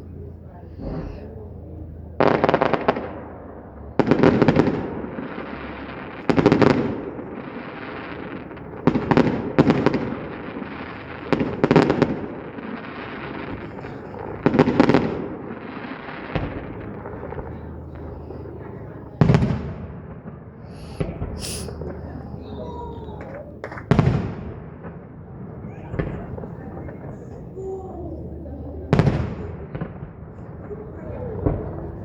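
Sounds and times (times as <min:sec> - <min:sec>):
fireworks crackling bangs: 0:00.8 - 0:22.4, 0:23.0 - 0:27.1.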